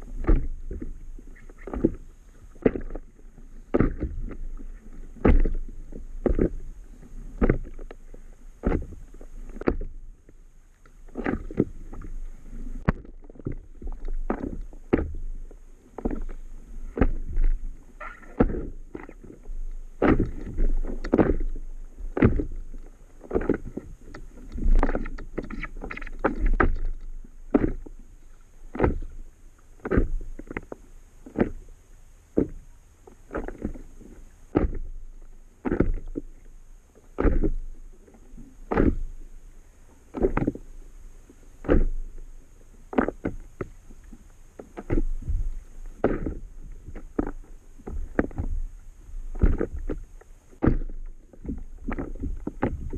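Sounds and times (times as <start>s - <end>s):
waves slapping against paddle board: 0.0s - 31.7s, 32.3s - 52.9s
low rumble of water: 0.0s - 52.9s.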